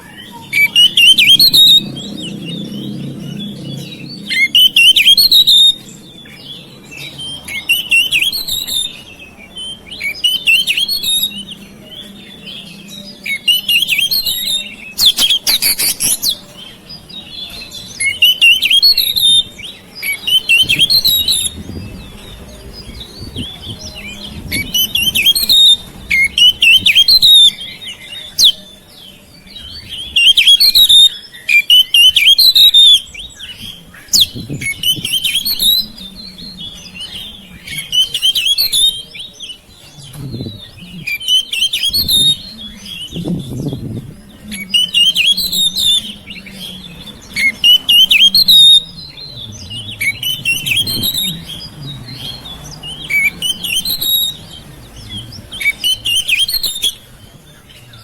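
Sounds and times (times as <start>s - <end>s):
bird singing warbling phrases: 0.0s - 58.0s.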